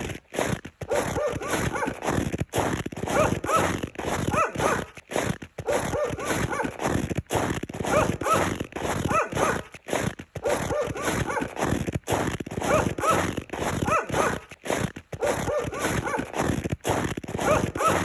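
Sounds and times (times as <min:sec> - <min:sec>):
footsteps crunching in snow: 0:00.0 - 0:18.0.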